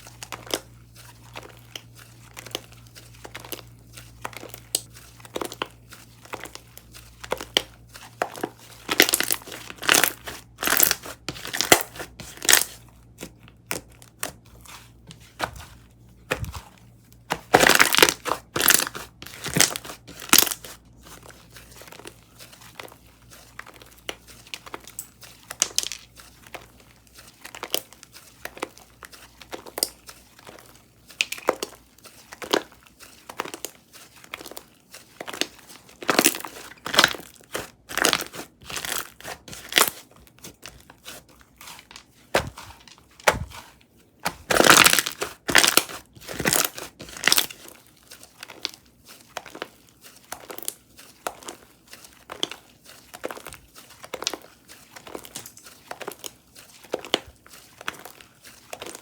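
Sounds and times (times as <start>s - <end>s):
slime crinkling and popping: 0.0s - 59.0s.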